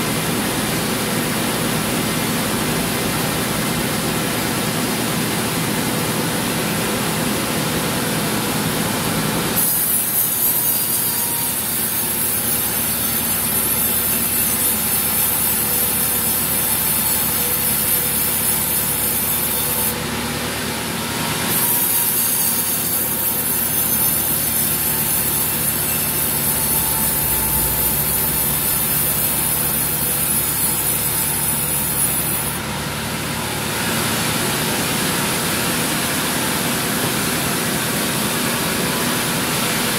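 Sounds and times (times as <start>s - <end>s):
band saw cutting wood: 5.4s - 39.9s.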